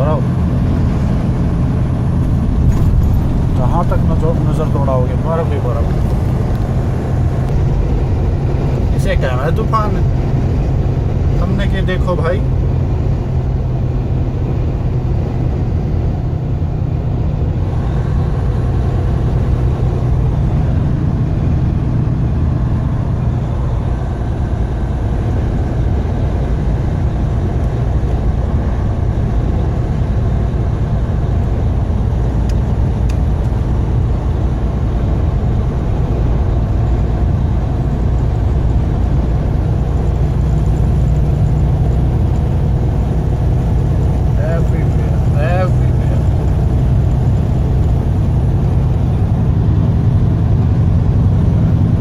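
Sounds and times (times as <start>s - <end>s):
road noise: 0.0s - 52.0s
truck engine drone: 0.0s - 52.0s.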